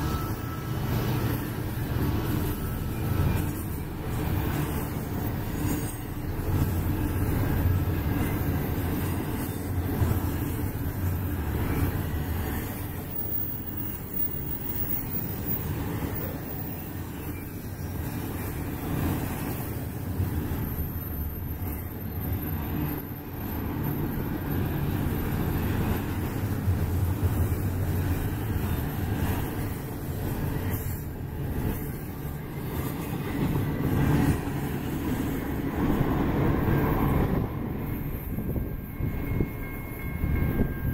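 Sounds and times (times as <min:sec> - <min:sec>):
steel wheels rumbling on rail: 0:00.0 - 0:40.9.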